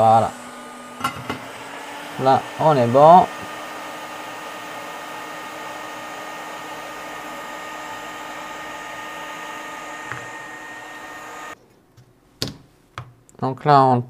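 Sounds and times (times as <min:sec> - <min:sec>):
hot air station hissing: 0:00.0 - 0:11.6.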